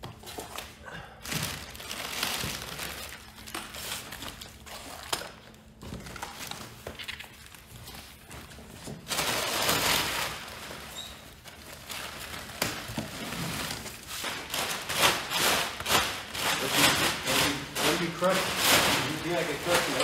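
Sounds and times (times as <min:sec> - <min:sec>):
packing paper rustling: 0:00.3 - 0:20.0.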